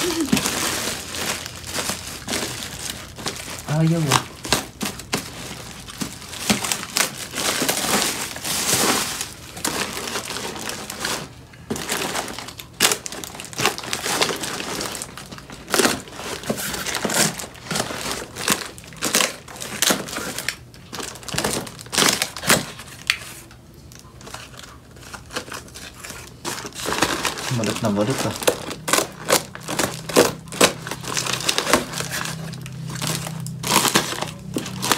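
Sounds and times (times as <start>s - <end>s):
plastic packaging crinkling: 0.0s - 34.9s.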